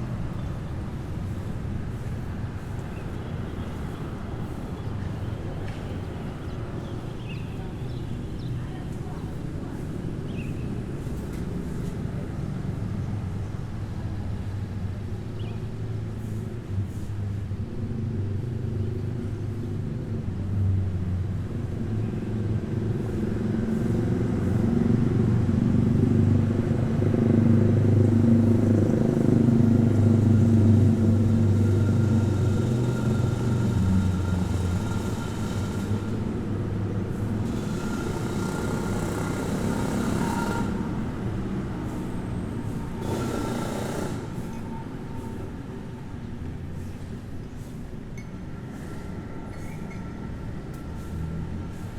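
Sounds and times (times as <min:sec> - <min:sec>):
cars and motorcycles passing: 0:00.0 - 0:47.7.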